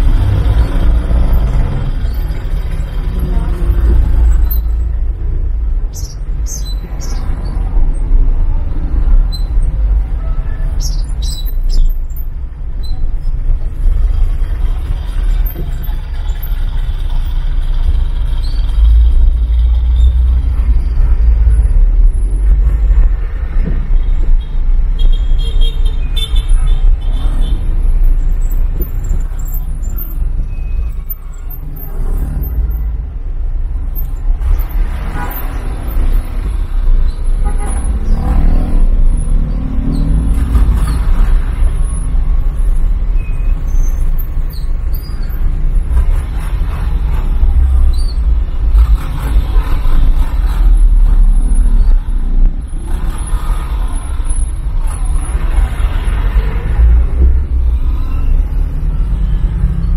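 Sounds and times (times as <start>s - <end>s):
engine and road noise rumble: 0.0s - 59.9s.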